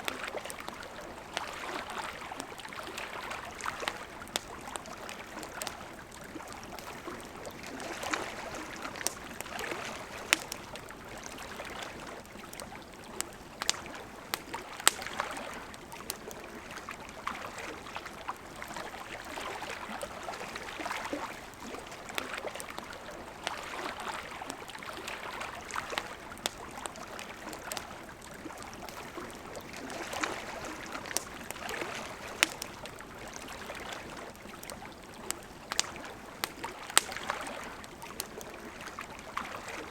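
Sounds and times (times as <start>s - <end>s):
campfire crackling: 0.0s - 39.9s
river water flowing: 0.0s - 39.9s.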